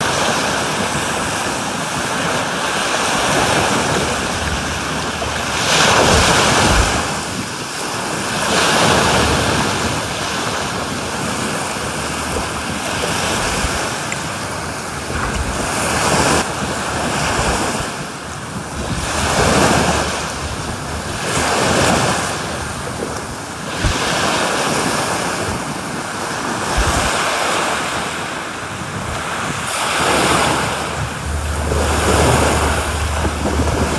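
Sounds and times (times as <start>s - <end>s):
sea waves washing onto beach: 0.0s - 33.9s
wind buffeting microphone: 0.0s - 33.9s.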